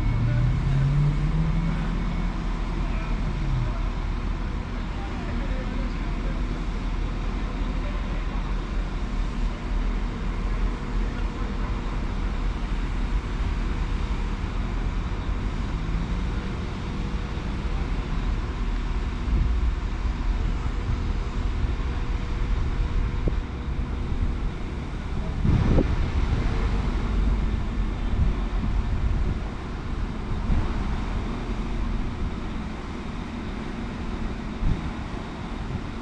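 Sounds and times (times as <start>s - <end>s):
train rumbling: 0.0s - 7.5s, 8.2s - 36.0s.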